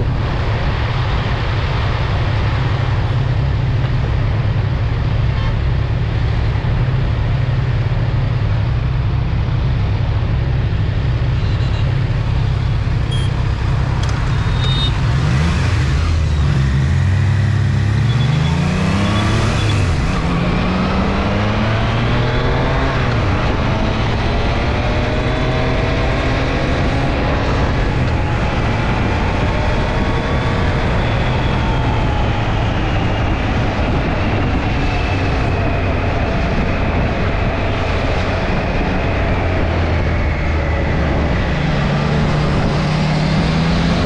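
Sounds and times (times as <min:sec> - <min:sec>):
rush of wind noise: 0:00.0 - 0:44.0
motorcycle engine accelerating: 0:06.8 - 0:44.0.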